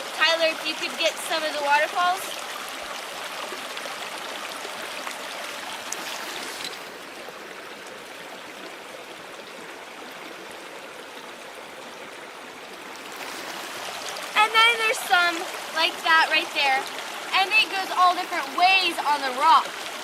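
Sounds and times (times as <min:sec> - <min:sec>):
rush of falling water: 0:00.0 - 0:20.0.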